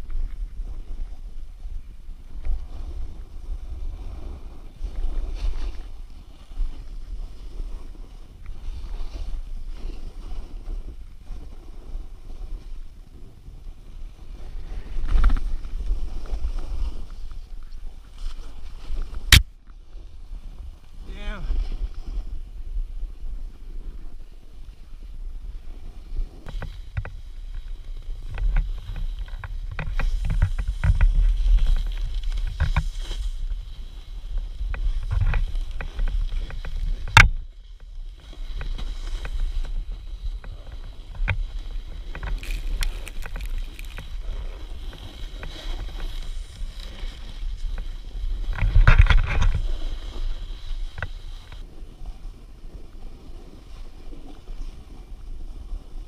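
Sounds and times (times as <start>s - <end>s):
snowboard scraping snow: 0.0s - 56.0s
wind rumble on microphone: 0.0s - 56.0s.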